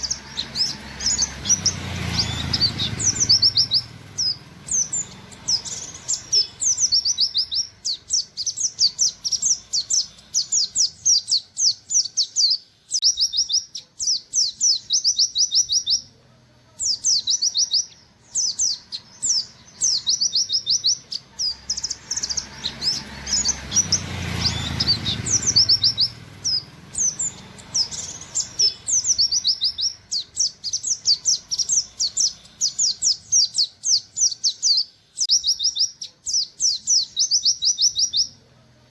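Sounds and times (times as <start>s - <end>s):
bird singing high sharp notes: 0.0s - 16.1s, 16.8s - 38.4s.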